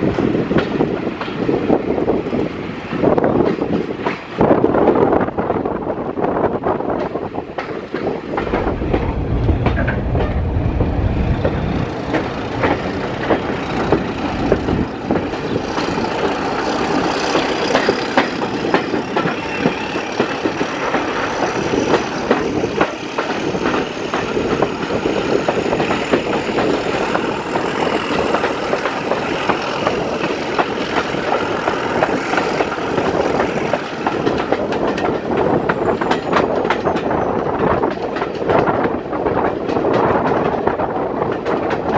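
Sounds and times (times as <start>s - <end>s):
train coach rumbling: 0.0s - 41.9s
wheels clicking over rail joints: 6.9s - 41.9s.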